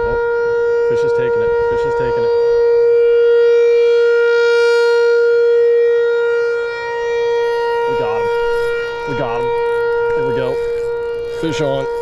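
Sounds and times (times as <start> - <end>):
loud steady whine: 0.0 - 12.0.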